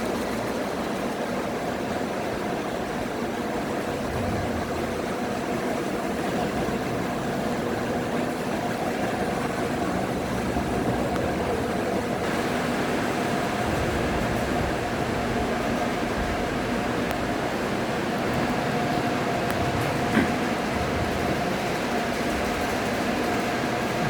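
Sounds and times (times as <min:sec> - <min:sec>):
ceiling fan running: 0:00.0 - 0:24.0.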